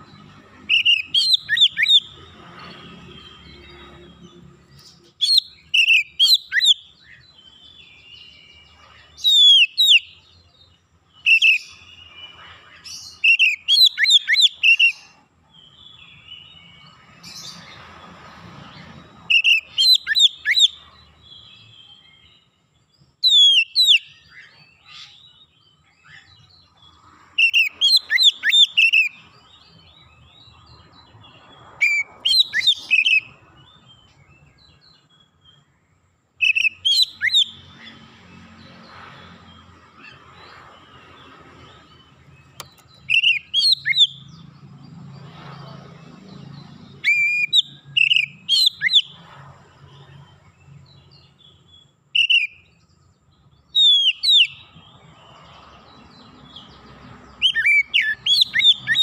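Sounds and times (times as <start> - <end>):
bird singing whistled notes: 0.0 - 18.0, 18.7 - 35.8, 36.4 - 59.0.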